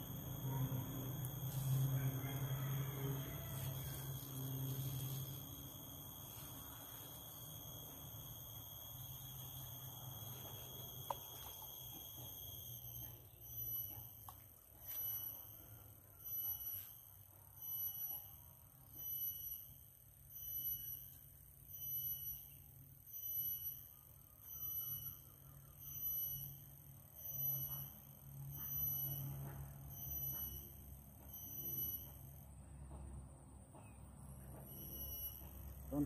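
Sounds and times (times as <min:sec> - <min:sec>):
insect calling high pure tone: 0:00.0 - 0:32.5, 0:34.5 - 0:36.0.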